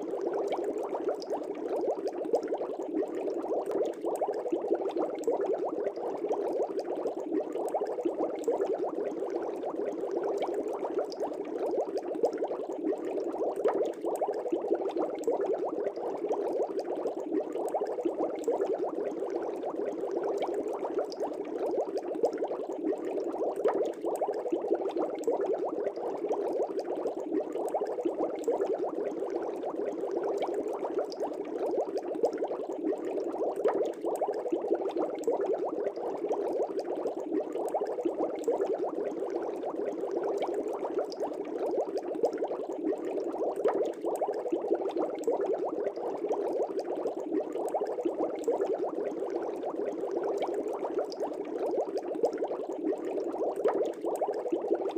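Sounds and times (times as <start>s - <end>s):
air bubbling in fish tank: 0.0s - 54.9s.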